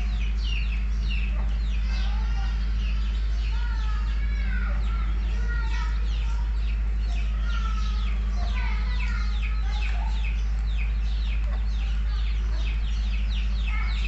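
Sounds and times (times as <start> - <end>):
chicks peeping: 0.0 - 14.0
steady low hum: 0.0 - 14.0.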